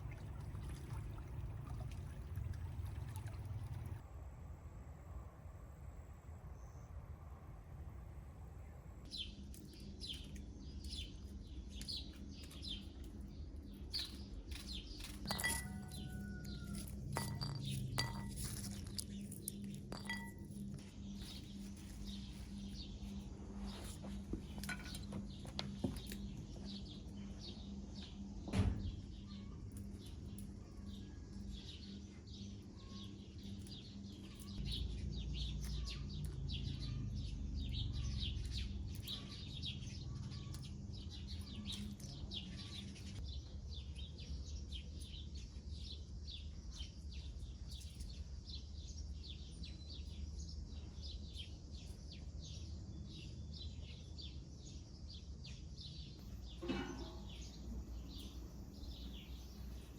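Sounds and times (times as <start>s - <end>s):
small birds chirping: 9.0s - 59.9s.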